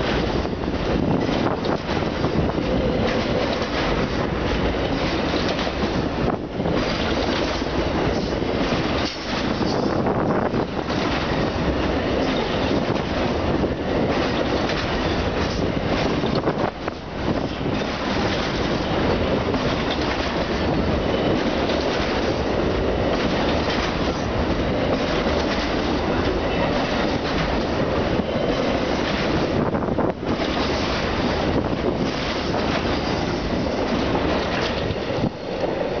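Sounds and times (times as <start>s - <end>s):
steel wheels on rail: 0.0s - 36.0s
train cars rolling past: 0.0s - 36.0s.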